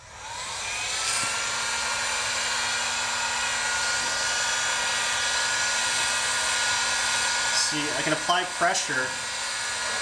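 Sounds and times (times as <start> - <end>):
heat gun blowing air with whine: 0.0 - 10.0.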